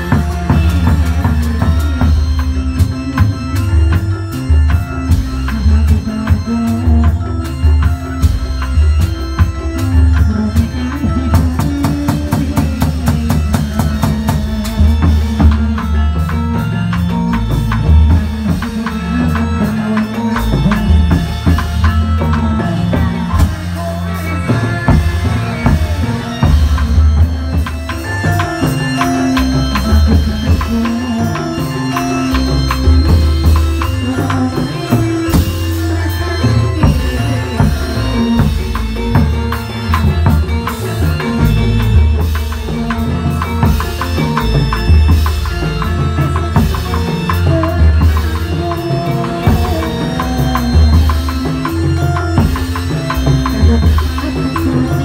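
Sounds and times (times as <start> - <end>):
driving drum beat with deep bass: 0.0 - 55.0.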